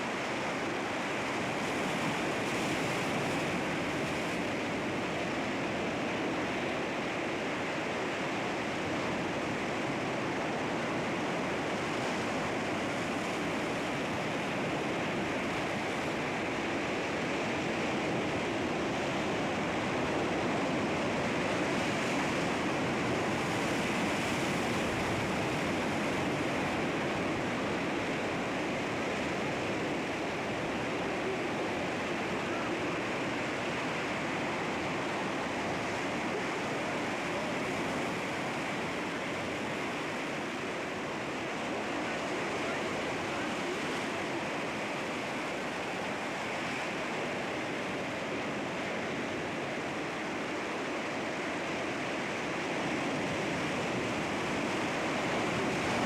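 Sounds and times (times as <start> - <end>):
sea waves breaking over rocks: 0.0 - 56.0.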